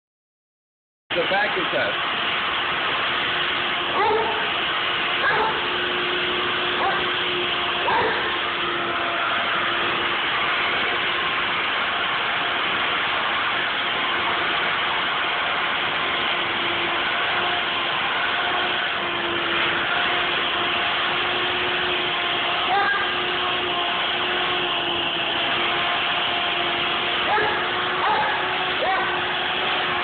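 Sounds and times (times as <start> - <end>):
shop vacuum motor running: 1.1 - 30.0.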